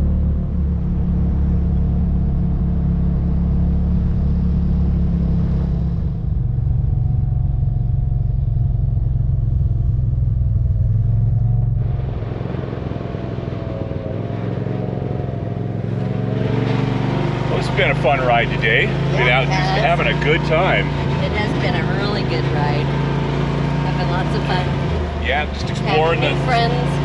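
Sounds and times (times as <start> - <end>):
road noise: 0.0 - 27.0
utility vehicle engine rumble: 0.0 - 27.0.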